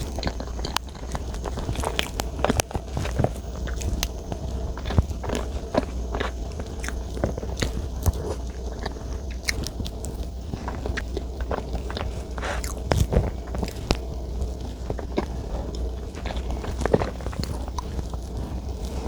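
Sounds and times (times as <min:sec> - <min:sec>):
person chewing soft food: 0:00.0 - 0:19.0.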